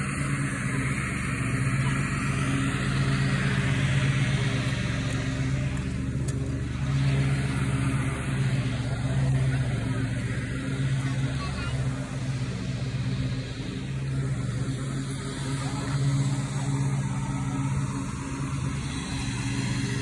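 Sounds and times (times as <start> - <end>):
longboard wheels rolling on asphalt: 0.0 - 20.0.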